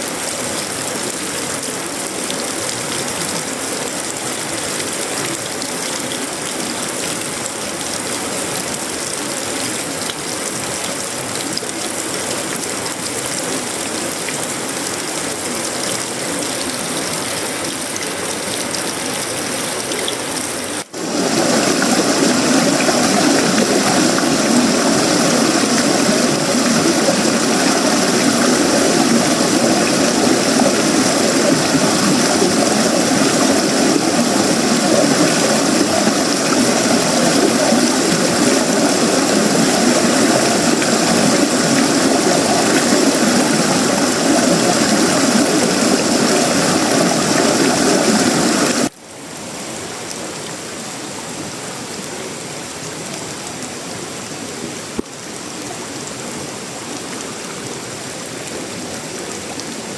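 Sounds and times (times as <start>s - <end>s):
heavy rain on metal roof: 0.0s - 59.9s.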